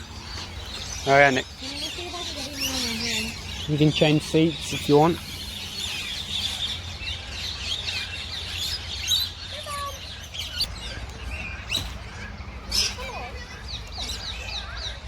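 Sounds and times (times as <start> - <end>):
birds chirping and whistling: 0.0 - 15.0.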